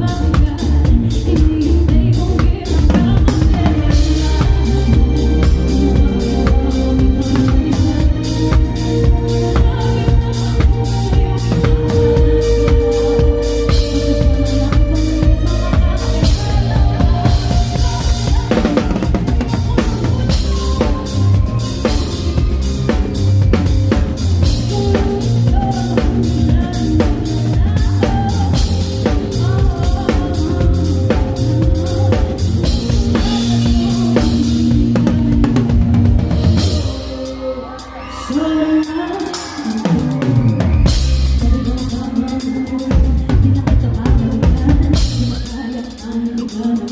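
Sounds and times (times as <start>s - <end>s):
heavy bass line: 0.0s - 38.1s
drum kit playing: 0.0s - 46.9s.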